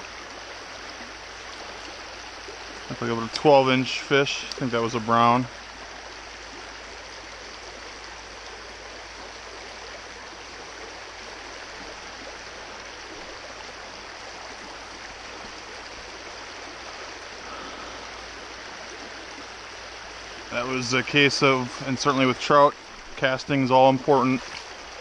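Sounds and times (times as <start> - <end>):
creek rushing over rocks: 0.0 - 25.0.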